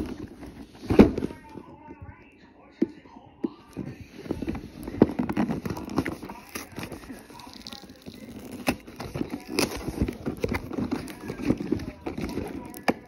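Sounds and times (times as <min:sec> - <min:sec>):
cardboard crackling and scraping: 0:00.0 - 0:02.0, 0:03.7 - 0:13.0.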